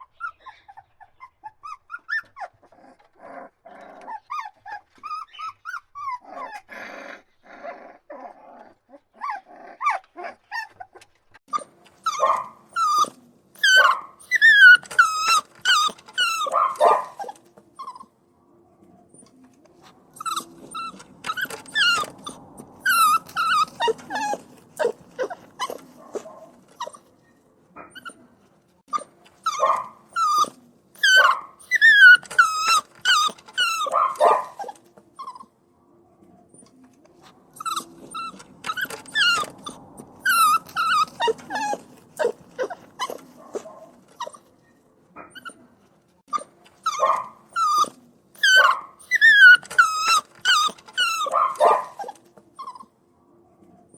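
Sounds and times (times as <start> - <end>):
puppies whining and crying: 0.0 - 18.2, 19.1 - 35.6, 36.5 - 53.0.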